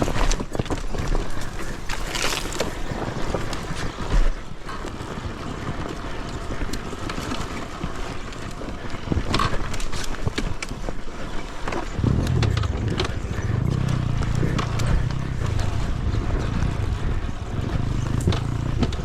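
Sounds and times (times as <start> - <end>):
dirt bike engine: 0.0 - 19.0
knocks and clatter from terrain: 0.0 - 19.0
wind on microphone: 0.0 - 19.0.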